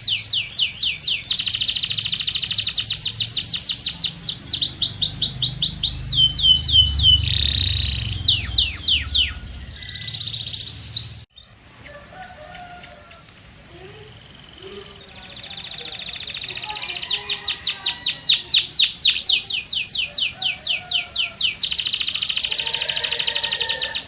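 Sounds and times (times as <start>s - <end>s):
canary singing trills: 0.0s - 24.0s.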